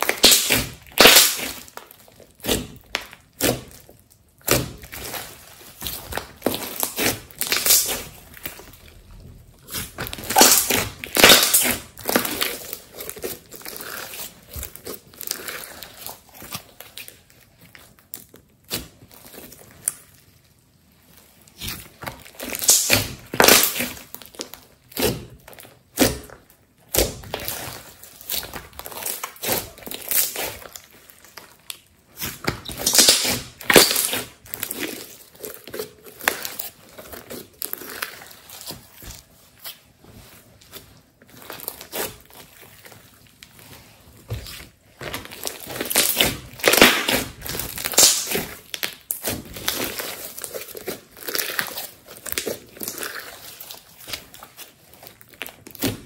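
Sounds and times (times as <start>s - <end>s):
slime crackling and popping: 0.0s - 56.0s.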